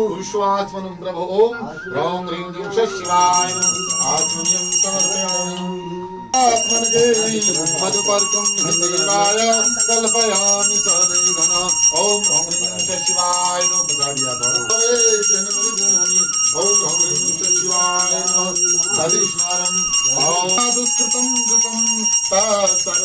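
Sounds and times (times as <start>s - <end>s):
devotional music: 0.0s - 23.0s
hand bell ringing rapidly: 3.1s - 5.7s, 6.4s - 23.0s.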